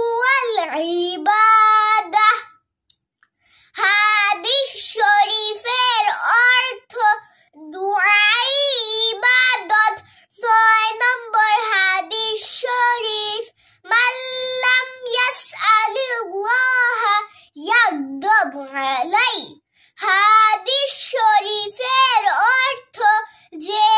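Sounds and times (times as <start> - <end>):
girl singing: 0.0 - 2.6, 3.7 - 23.9.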